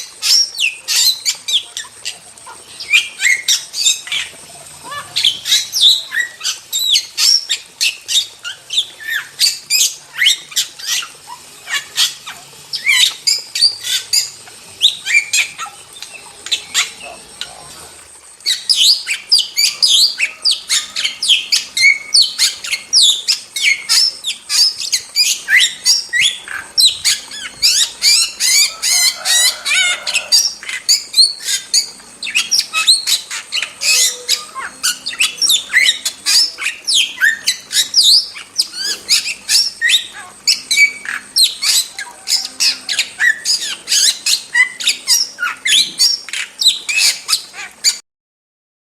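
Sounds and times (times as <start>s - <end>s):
starling singing: 0.0s - 48.0s.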